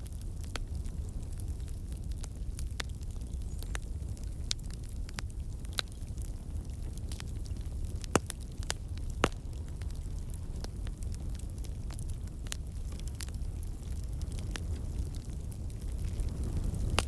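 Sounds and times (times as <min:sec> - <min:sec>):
bonfire crackling and popping: 0:00.0 - 0:17.0
low rumble of flames: 0:00.0 - 0:17.0.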